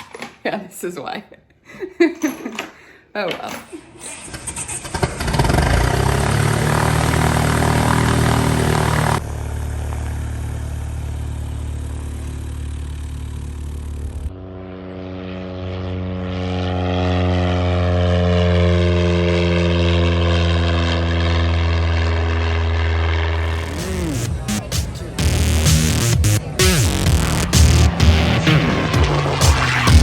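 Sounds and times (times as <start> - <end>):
propeller airplane engine running: 4.0 - 30.0.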